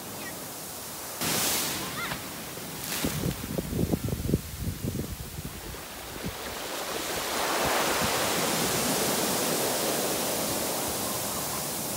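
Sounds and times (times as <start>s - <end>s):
surf washing up a beach: 0.0s - 11.9s.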